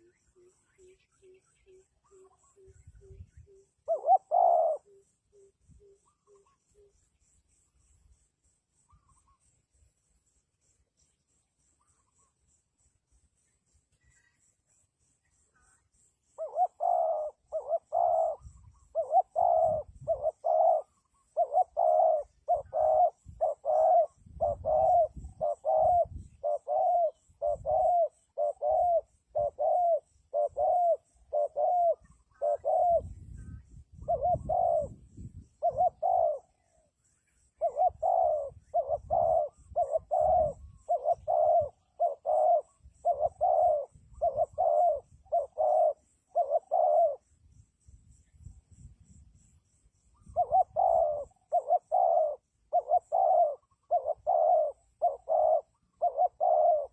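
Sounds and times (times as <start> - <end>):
dove cooing: 0.0 - 7.0, 15.5 - 47.3, 50.1 - 56.9.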